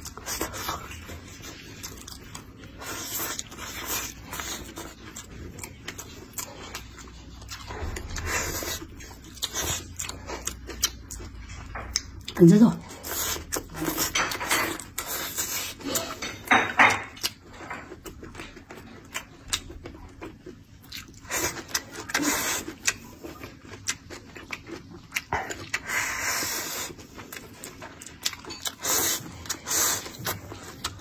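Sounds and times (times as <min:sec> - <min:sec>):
man chewing food: 0:00.0 - 0:31.0.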